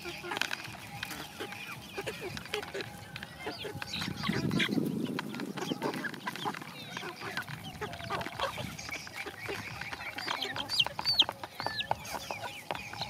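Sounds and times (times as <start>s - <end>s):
chicks clucking: 0.0s - 13.0s.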